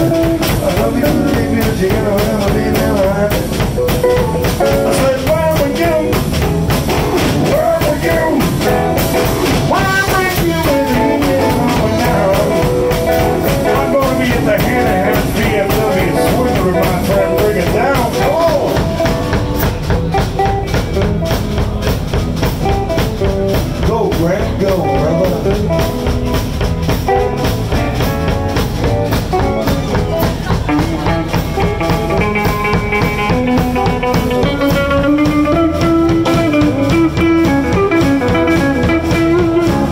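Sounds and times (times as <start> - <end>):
blues band playing: 0.0 - 39.9
drum kit steady beat: 0.0 - 39.9
guitar lead line bending pitch: 3.6 - 23.8, 24.6 - 39.9.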